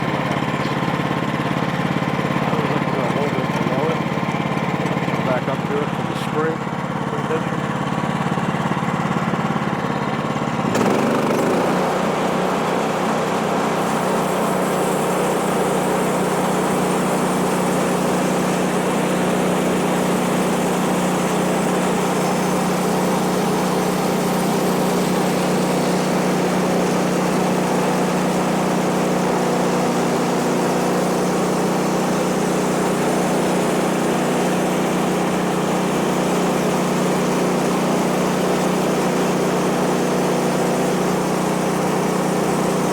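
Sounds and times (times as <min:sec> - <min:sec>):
sawmill sawing through log: 0:00.0 - 0:42.9
small gas engine running: 0:00.0 - 0:42.9.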